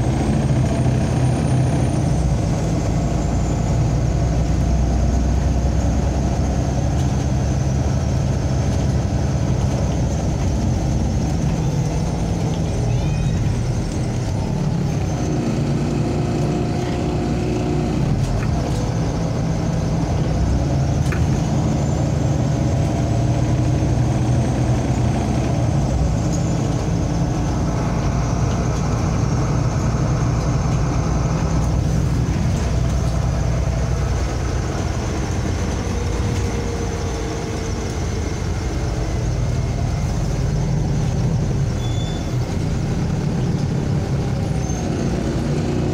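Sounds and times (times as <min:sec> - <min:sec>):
bus engine drone: 0:00.0 - 0:45.9
road noise: 0:00.0 - 0:45.9.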